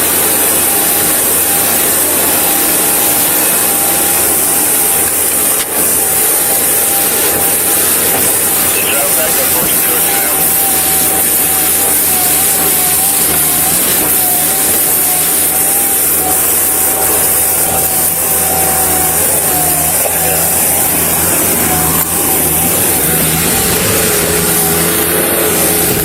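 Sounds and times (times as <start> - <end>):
loud constant hiss: 0.0 - 26.0
motor whine: 0.0 - 26.0.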